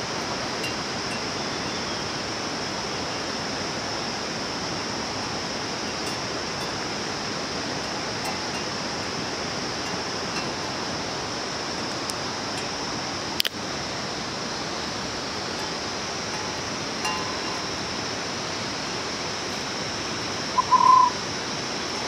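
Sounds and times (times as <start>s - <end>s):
constant high-pitched drone: 0.0s - 22.0s
rushing noise like flowing water: 0.0s - 22.0s.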